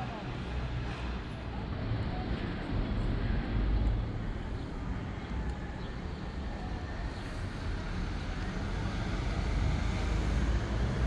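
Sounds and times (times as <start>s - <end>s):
low rumbling street noise: 0.0s - 11.0s.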